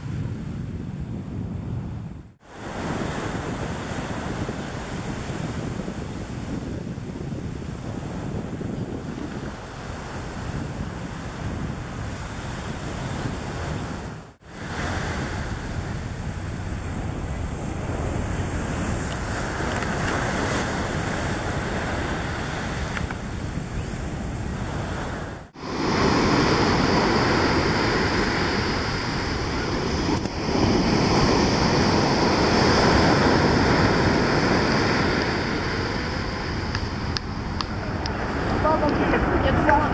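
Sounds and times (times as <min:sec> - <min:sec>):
wind noise on microphone: 0:00.0 - 0:39.9
waves breaking on beach: 0:02.4 - 0:39.9.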